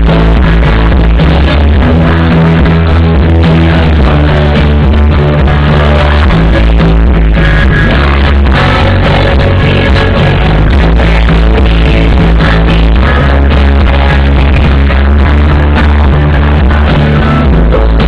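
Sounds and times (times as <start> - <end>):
heavy sustained bass notes: 0.0 - 18.0.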